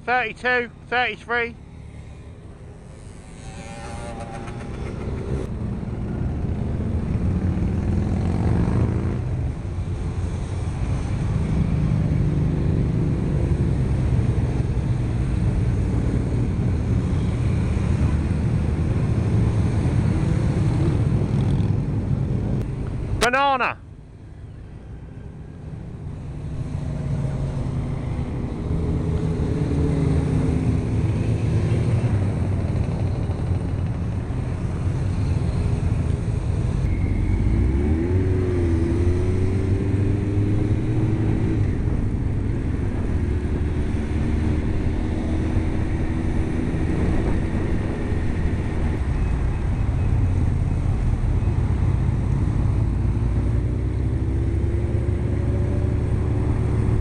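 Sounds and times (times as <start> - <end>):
motorcycle engines running: 0.0 - 23.3, 24.3 - 57.0.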